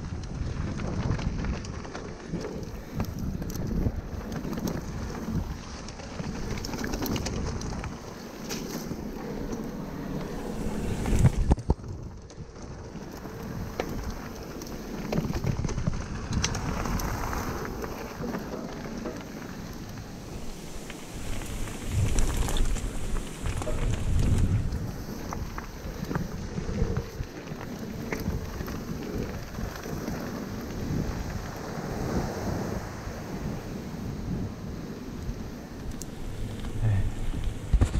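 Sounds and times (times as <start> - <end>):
tyres crunching over stones: 0.0 - 32.0
bike rattling over bumps: 0.0 - 37.9
wind rushing over microphone: 0.0 - 37.9.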